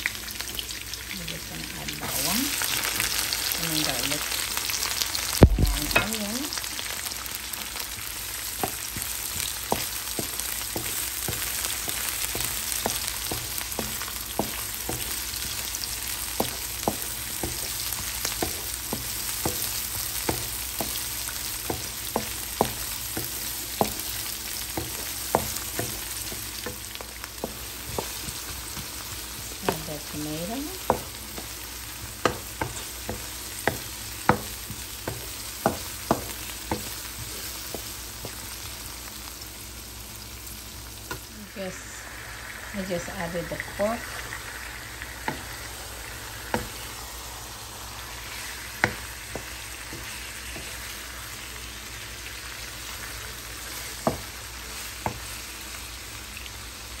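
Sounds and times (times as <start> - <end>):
garlic and onion sizzling in oil: 0.0 - 57.0.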